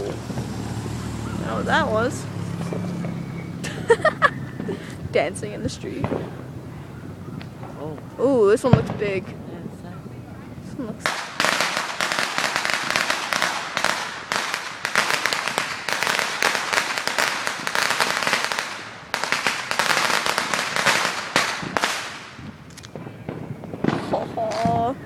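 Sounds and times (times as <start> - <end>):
fireworks crackling and banging: 0.0 - 25.0.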